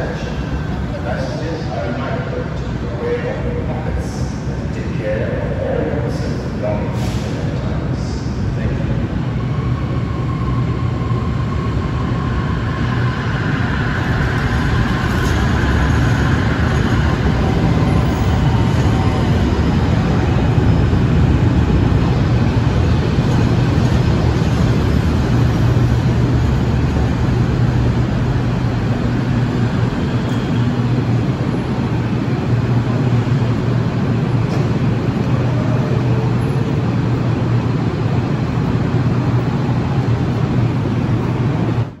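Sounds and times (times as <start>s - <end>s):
busy station noise: 0.0s - 42.0s
metro train rumble: 0.0s - 42.0s.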